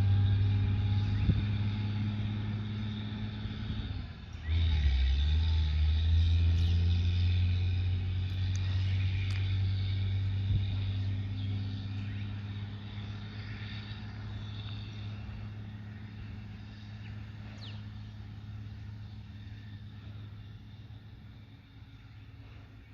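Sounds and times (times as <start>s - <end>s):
diesel truck engine under load: 0.0s - 22.9s.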